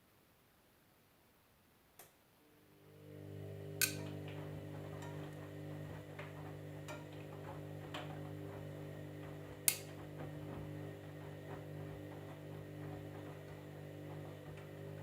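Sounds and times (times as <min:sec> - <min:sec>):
washing machine humming: 0:02.7 - 0:15.0.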